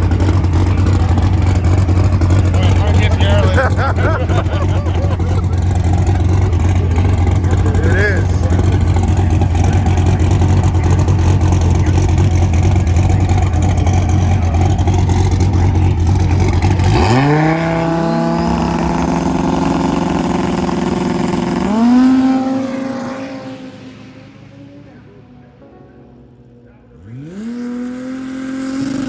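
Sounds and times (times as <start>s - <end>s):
drag car engine drone: 0.0s - 29.0s.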